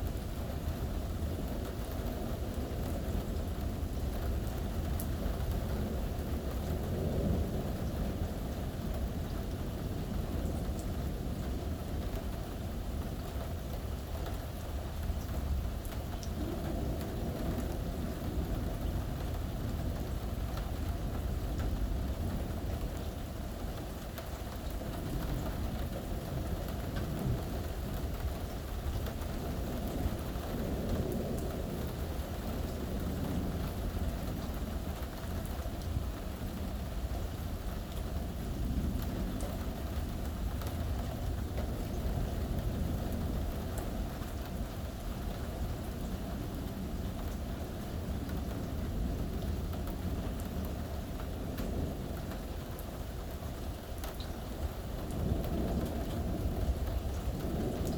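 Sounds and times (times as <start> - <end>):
steady rain hiss: 0.0 - 57.9
low thunder rumble: 0.1 - 57.9.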